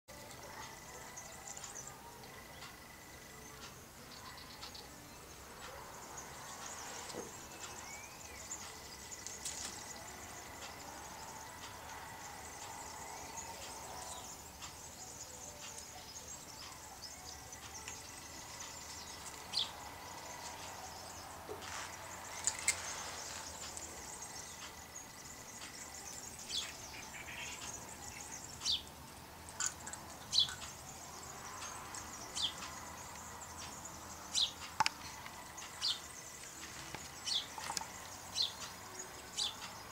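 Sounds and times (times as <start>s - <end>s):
songbirds chirping: 0.1s - 39.9s
steady background hiss: 0.1s - 39.9s.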